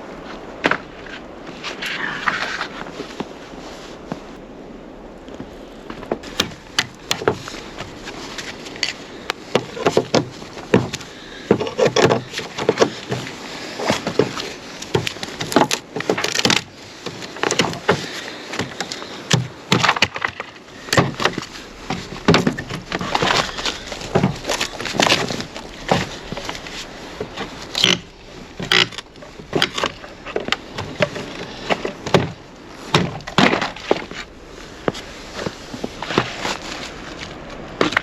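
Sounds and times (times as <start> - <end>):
wooden knocks and cracks: 5.3 - 38.0.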